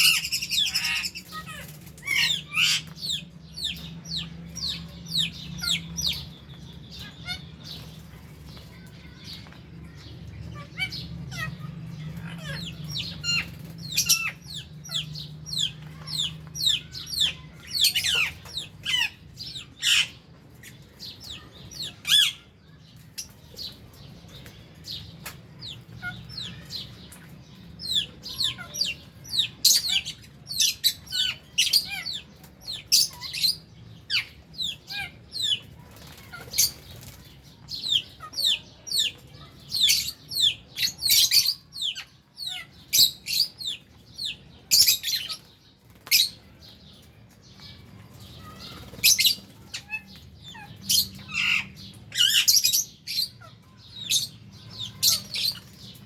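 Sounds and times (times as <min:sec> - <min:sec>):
lovebirds chattering: 0:00.0 - 0:56.0.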